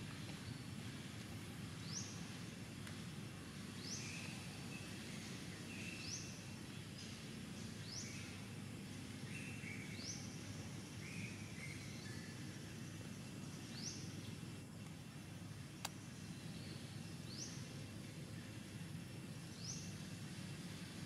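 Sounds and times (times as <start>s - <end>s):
low outdoor background hum: 0.0s - 21.0s.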